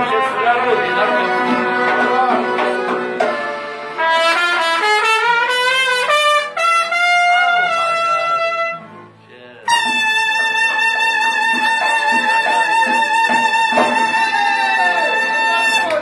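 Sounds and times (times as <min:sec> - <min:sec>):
trumpet playing slow melody: 0:00.0 - 0:09.1, 0:09.7 - 0:16.0
backing music: 0:00.0 - 0:16.0.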